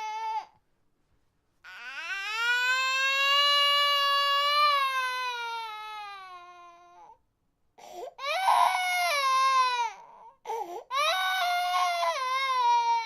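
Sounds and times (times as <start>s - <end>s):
infant crying: 0.0s - 0.6s, 1.6s - 7.2s, 7.8s - 13.0s.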